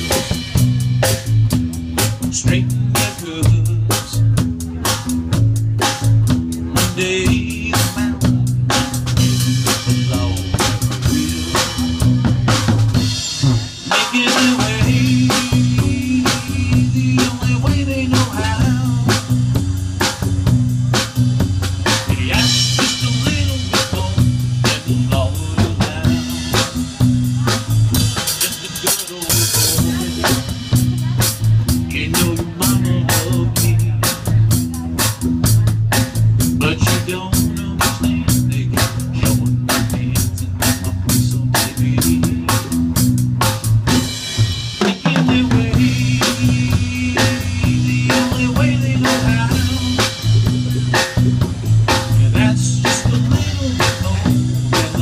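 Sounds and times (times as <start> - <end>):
bass guitar: 0.0 - 55.0
drum kit snare and rimshot beat: 0.0 - 55.0.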